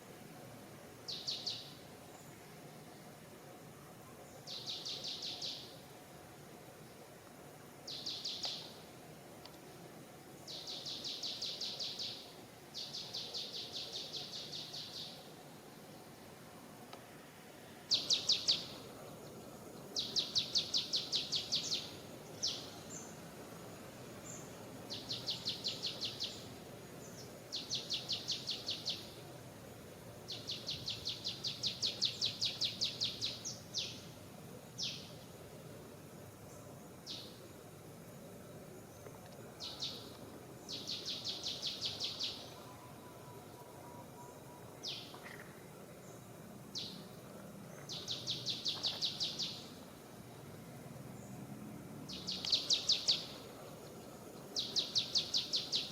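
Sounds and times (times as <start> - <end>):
faint background hum: 0.0 - 55.9.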